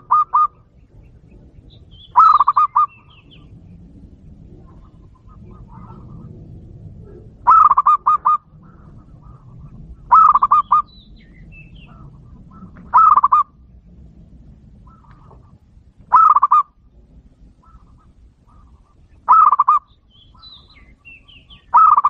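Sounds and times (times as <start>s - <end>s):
dove cooing: 0.0s - 0.8s, 1.9s - 3.7s, 4.3s - 13.7s, 14.8s - 16.8s, 17.4s - 22.0s.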